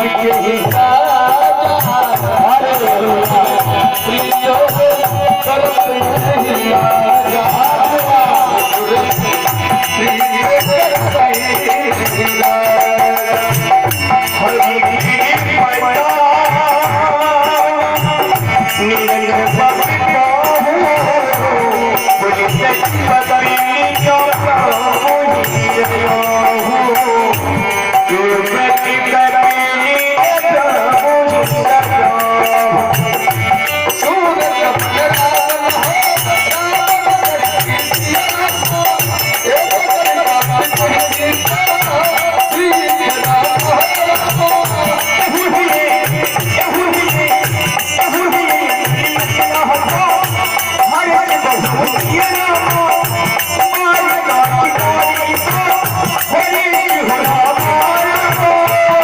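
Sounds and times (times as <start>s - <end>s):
harmonium: 0.0s - 59.0s
small cymbals jingling: 0.0s - 59.0s.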